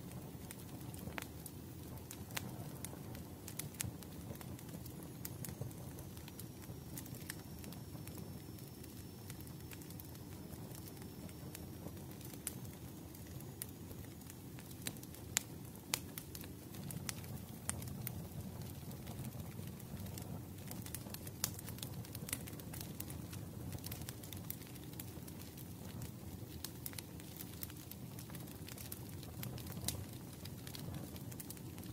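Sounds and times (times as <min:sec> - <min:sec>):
fire pops and snaps: 0:00.0 - 0:31.9
wood fire crackling: 0:00.0 - 0:31.9.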